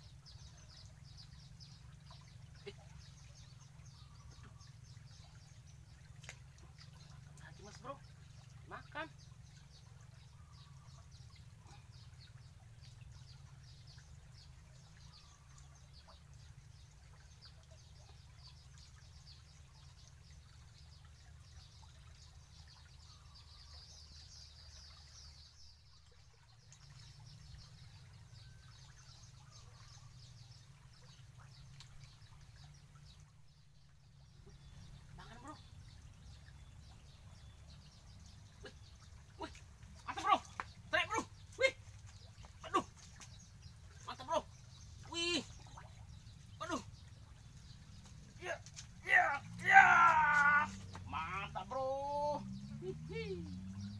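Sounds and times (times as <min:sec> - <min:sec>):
small birds chirping: 0:00.0 - 0:53.9
stream rumbling: 0:00.0 - 0:53.9.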